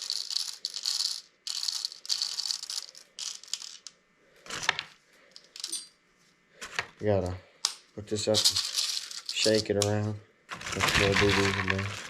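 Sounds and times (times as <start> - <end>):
metal bbs rattling: 0.0 - 6.0, 7.6 - 12.0.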